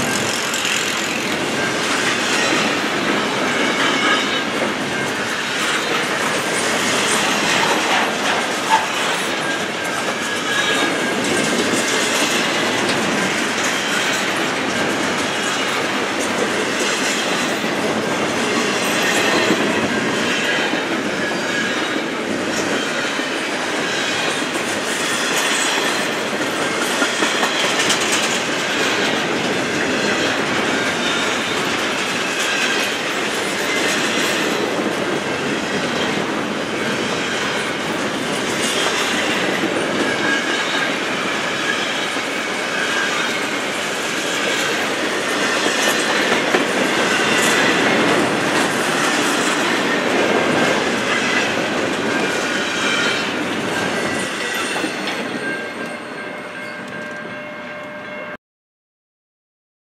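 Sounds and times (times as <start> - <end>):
train wheels on rail: 0.0 - 58.3.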